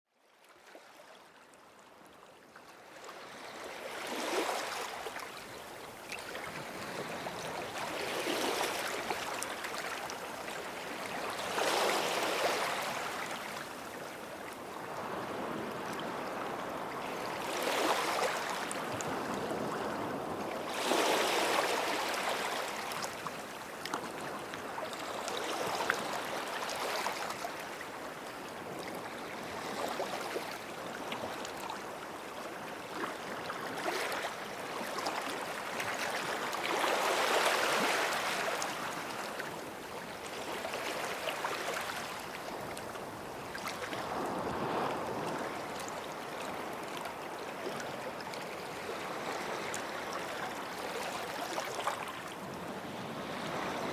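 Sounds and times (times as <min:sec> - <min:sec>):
waves washing onto a beach: 0:03.4 - 0:53.9.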